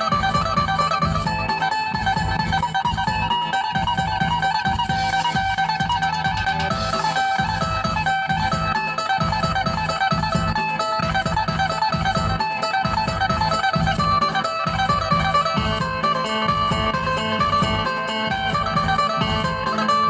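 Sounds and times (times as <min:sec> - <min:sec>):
plucked lute melody: 0:00.0 - 0:20.0
steady low beat: 0:00.0 - 0:20.0.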